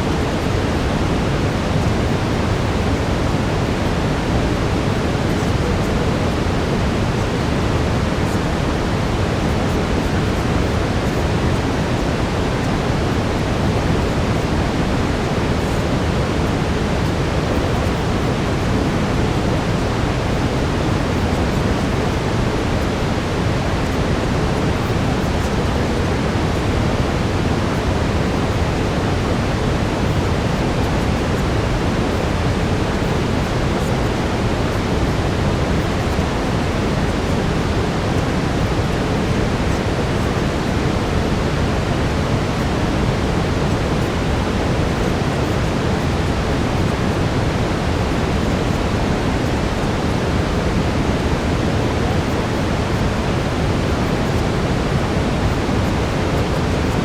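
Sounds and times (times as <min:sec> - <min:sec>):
brown noise hiss: 0:00.0 - 0:57.0.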